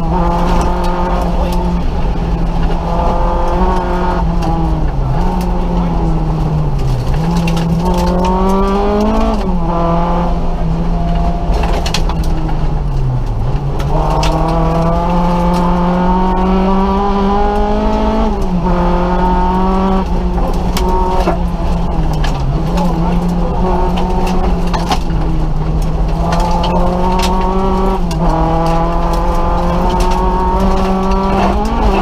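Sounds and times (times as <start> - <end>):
car engine revving: 0.0 - 32.0
road noise: 0.0 - 32.0.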